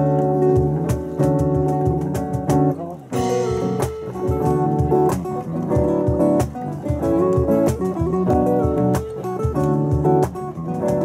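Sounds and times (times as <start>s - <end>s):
small acoustic band playing: 0.0s - 11.0s.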